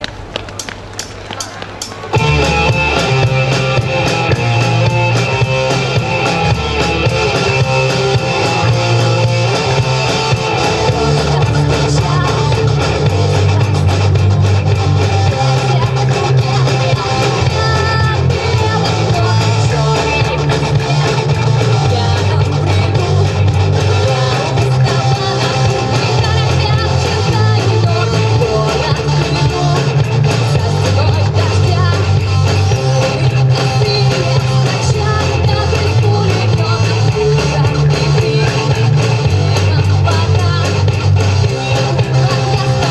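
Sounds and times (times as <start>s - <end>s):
drums: 0.0s - 42.9s
rock guitar: 1.5s - 42.9s
bass line stepping between notes: 2.2s - 42.9s.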